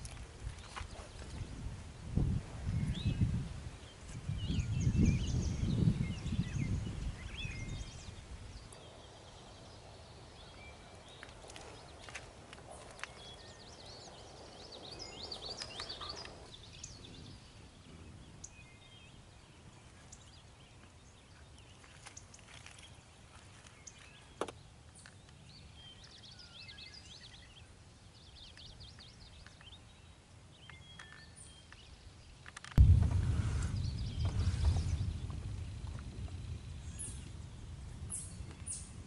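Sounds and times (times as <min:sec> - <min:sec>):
birds chirping: 0:02.6 - 0:39.0.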